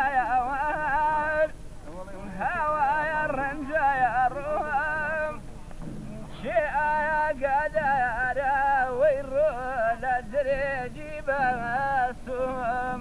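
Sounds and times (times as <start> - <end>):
man singing unaccompanied: 0.0 - 5.5, 6.1 - 13.0.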